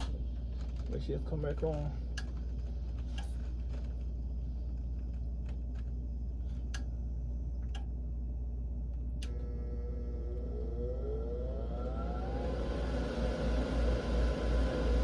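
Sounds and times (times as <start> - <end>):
gas furnace humming: 0.0 - 15.0.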